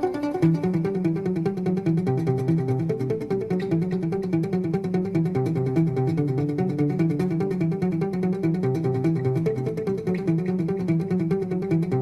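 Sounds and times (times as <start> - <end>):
picked guitar notes: 0.0 - 12.0.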